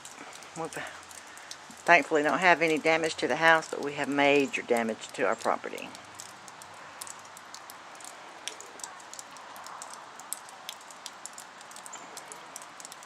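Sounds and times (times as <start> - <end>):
ice dripping from trees: 0.0 - 13.0.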